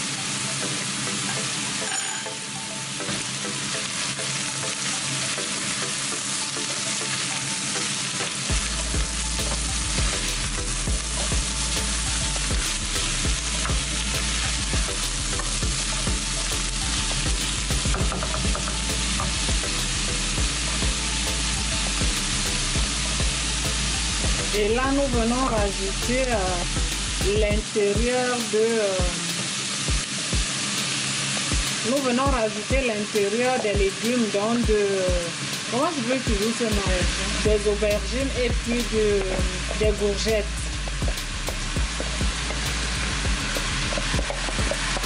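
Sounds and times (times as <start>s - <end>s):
vegetables sizzling in hot oil: 0.0s - 45.0s.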